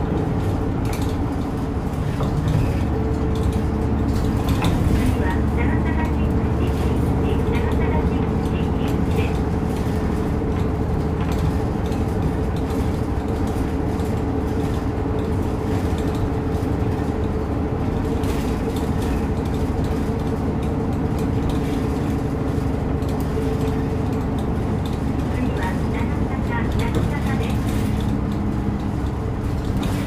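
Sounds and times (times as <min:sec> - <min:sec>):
bus engine and road drone: 0:00.0 - 0:30.0
constant whine: 0:00.0 - 0:30.0.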